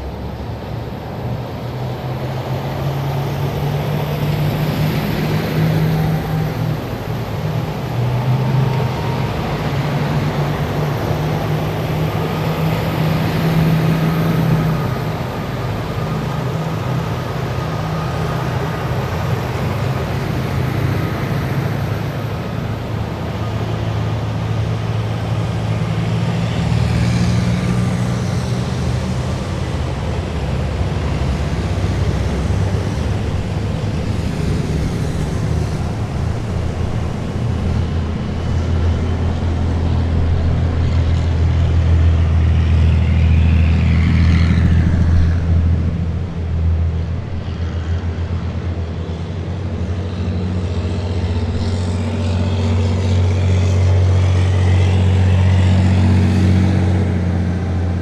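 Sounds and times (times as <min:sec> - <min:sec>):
heavy vehicles driving past: 0:00.0 - 0:58.0
high engine whine: 0:00.0 - 0:58.0.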